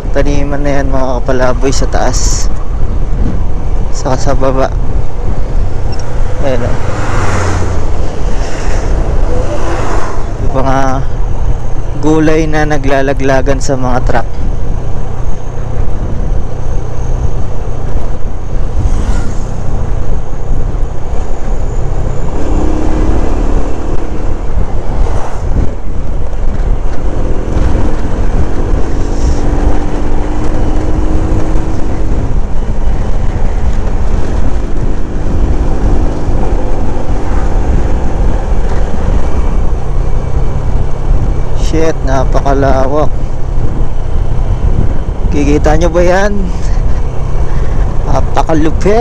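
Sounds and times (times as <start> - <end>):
motorcycle engine hum: 0.0 - 49.0
road noise: 0.0 - 49.0
wind rushing over microphone: 0.0 - 49.0.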